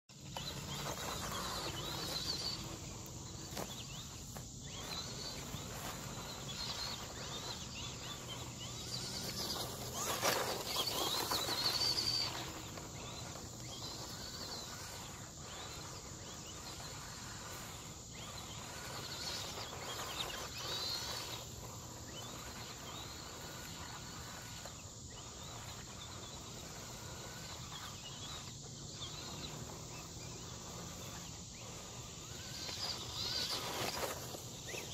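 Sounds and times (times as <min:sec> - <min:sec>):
rc truck motor whine: 0:00.1 - 0:34.9.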